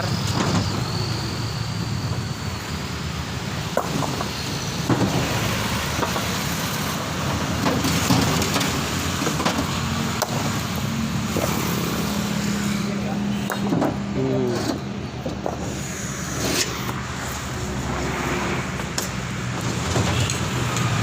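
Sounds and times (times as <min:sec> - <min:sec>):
road traffic: 0:00.0 - 0:21.0
vehicle engine noise: 0:00.0 - 0:21.0.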